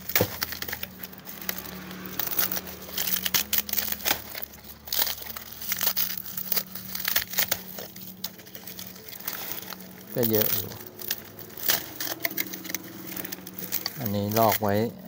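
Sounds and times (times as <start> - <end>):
dry leaves being torn: 0.0 - 15.0.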